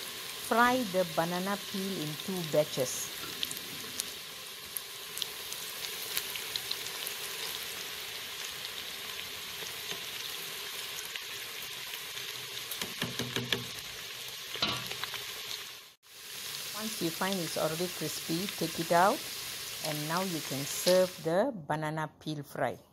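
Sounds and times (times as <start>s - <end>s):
deep-frying sizzle: 0.0s - 21.3s.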